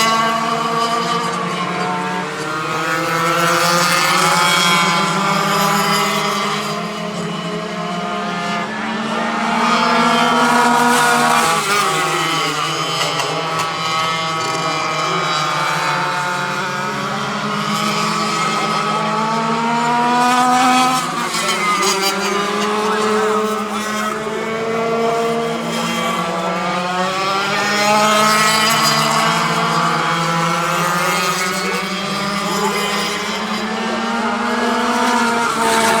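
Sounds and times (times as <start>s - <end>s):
go-kart engines buzzing: 0.0s - 36.0s.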